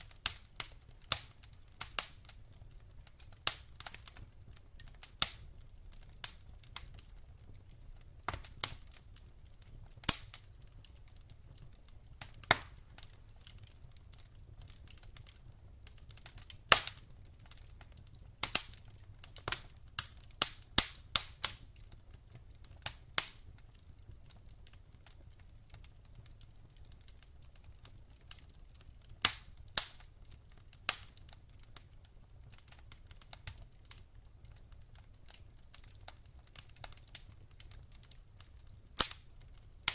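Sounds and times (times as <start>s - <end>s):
campfire wood crackling: 0.0s - 39.9s
low rumble of fire: 0.0s - 39.9s.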